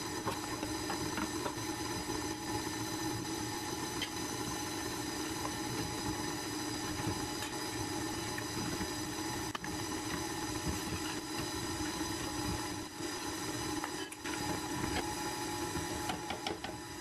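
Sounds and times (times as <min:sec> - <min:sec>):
stand mixer motor whining: 0:00.0 - 0:17.0.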